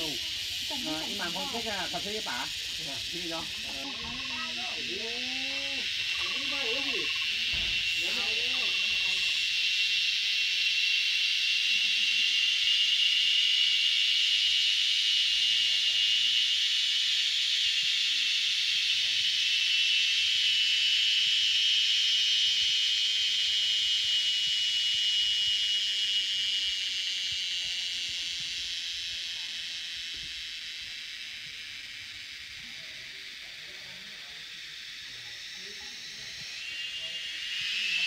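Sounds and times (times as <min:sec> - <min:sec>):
cicadas droning: 0:00.0 - 0:38.0.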